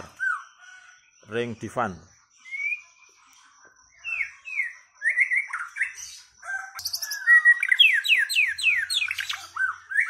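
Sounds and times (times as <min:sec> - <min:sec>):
bird singing whistled notes: 0:00.0 - 0:10.0.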